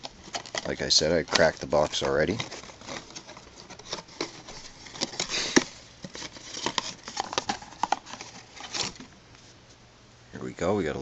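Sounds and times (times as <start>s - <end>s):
packaging clicks and rustling: 0.0s - 9.2s.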